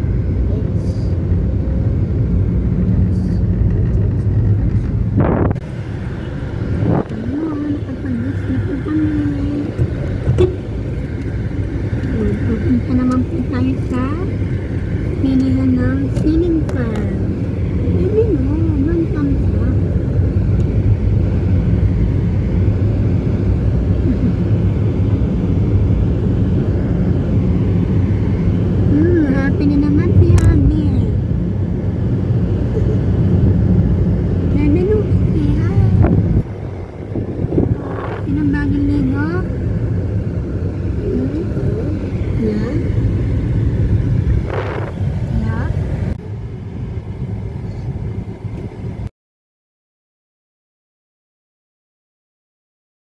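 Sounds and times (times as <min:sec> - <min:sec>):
car engine and road rumble: 0:00.0 - 0:49.1.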